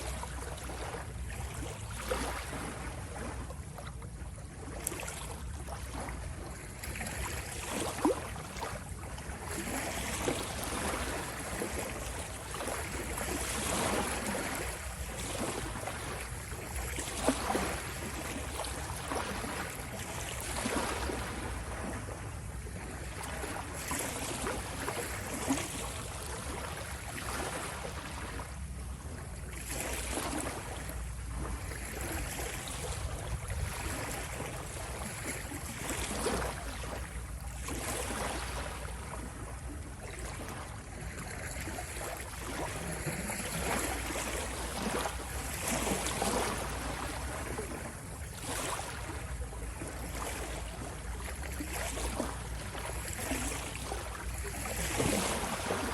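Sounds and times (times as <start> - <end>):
waves washing and splashing: 0.0 - 55.9.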